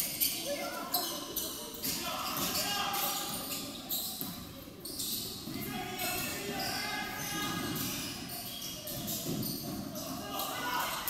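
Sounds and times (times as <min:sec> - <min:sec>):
voices calling out: 0:00.2 - 0:11.0.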